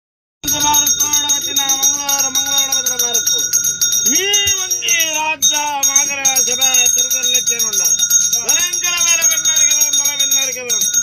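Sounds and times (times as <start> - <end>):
brass hand bell ringing: 0.4 - 11.0.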